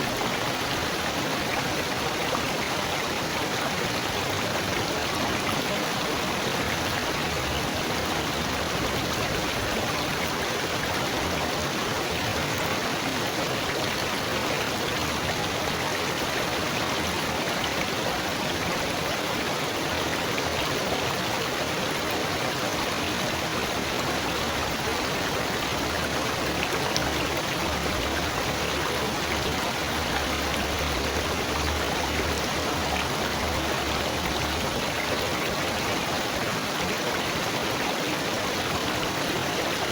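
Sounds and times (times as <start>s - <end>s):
water trickling and burbling: 0.0s - 39.9s.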